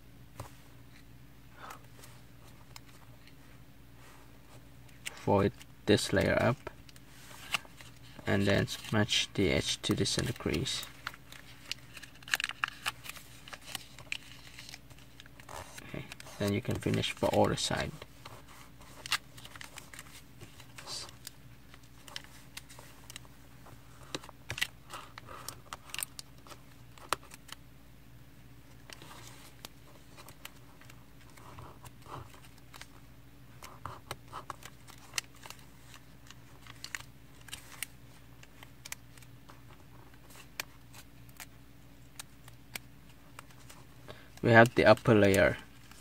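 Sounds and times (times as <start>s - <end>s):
faint steady hum: 0.0s - 46.0s
paper being folded and creased: 4.9s - 27.6s, 28.7s - 33.0s, 33.6s - 46.0s.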